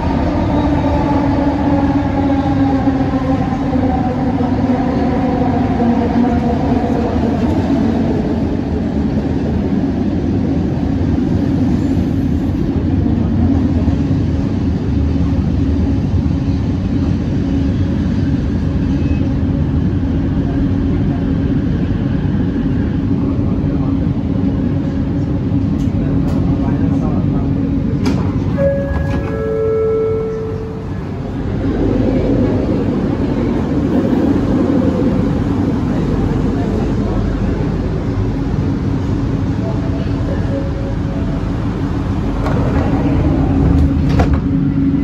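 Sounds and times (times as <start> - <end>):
train rumbling and rolling: 0.0 - 45.0.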